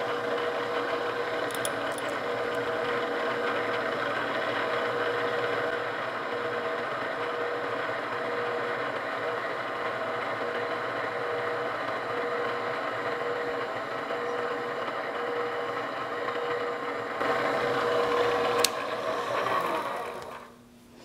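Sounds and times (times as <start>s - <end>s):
motor spinning down: 0.0s - 20.5s
drill press motor hum: 0.0s - 20.6s.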